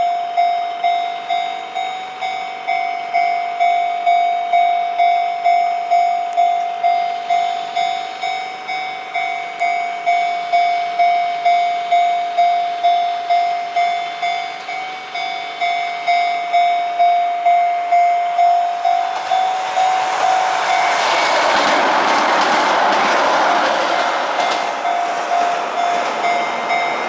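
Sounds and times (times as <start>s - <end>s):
level crossing bell ringing: 0.0s - 21.0s, 24.4s - 27.0s
electric train passing: 0.0s - 27.0s.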